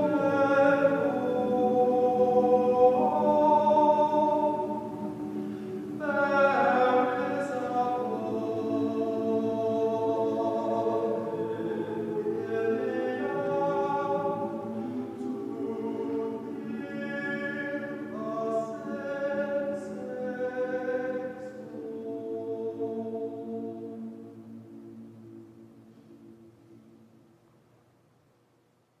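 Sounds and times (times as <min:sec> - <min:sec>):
mixed choir singing chords: 0:00.0 - 0:27.2.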